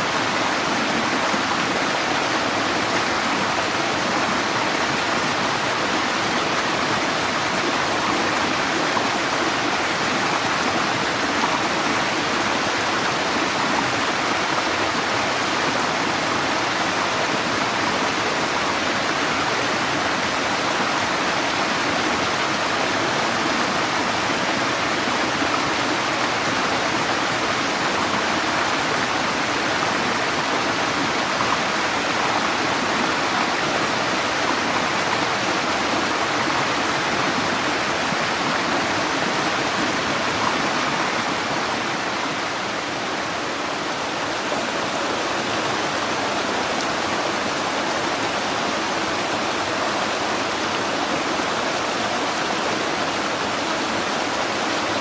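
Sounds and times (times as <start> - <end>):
waterfall cascading over rocks: 0.0 - 55.0.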